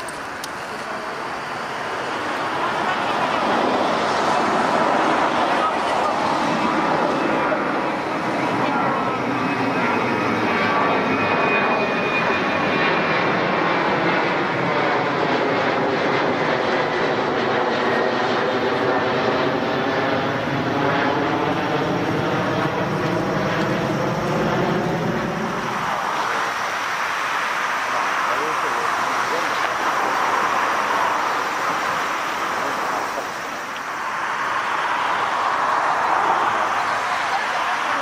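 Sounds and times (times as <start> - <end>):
hissy airport noise: 0.0 - 38.0
jet engine roar overhead: 0.0 - 38.0.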